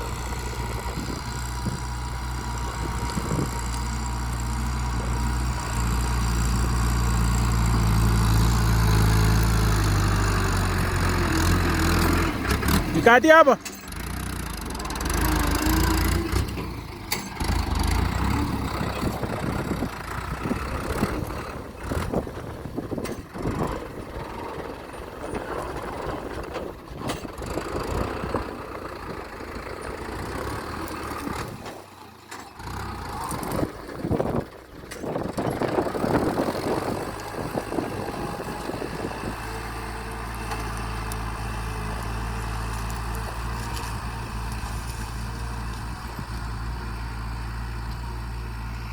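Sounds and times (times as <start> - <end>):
engine knocks and rattles: 0.0 - 48.9
tractor diesel engine running: 0.0 - 48.9.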